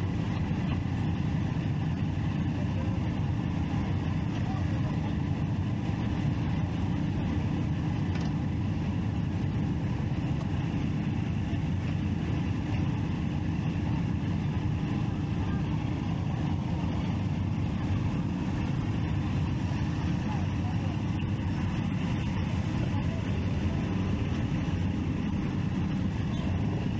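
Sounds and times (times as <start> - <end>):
motorcycle engine rumbling: 0.1 - 26.9.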